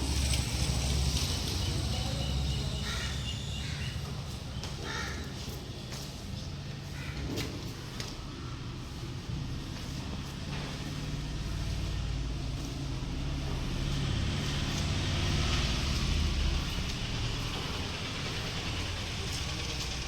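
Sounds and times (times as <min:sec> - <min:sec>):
engine rumbling: 0:00.0 - 0:20.0.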